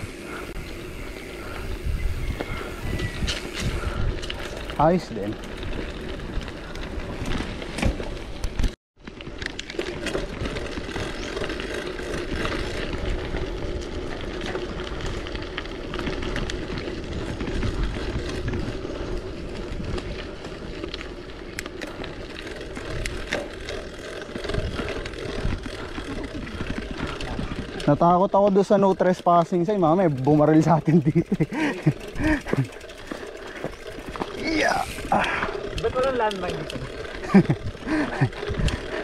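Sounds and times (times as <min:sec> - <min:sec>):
bicycle tyres rolling on dirt: 0:00.0 - 0:39.0
bike rattling and clicking: 0:00.0 - 0:39.0.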